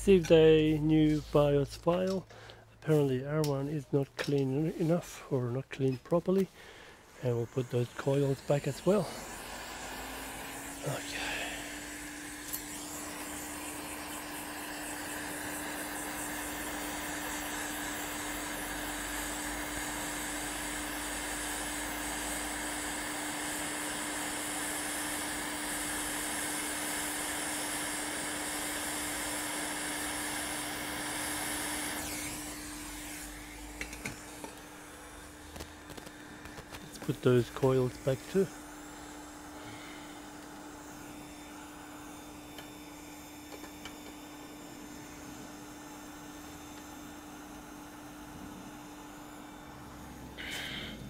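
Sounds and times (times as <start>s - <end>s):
fan hum: 0.0s - 23.1s, 31.6s - 51.0s
hot air blowing hiss: 4.5s - 51.0s.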